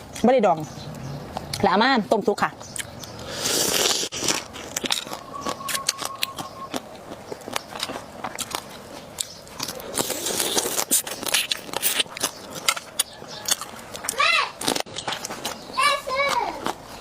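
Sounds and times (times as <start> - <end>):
wet crunching chews: 2.6 - 17.0.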